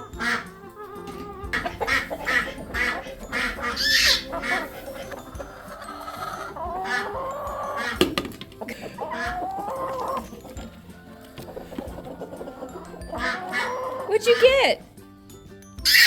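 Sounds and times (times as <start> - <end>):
hen squawking: 0.0 - 14.9
hens clucking: 0.0 - 15.0.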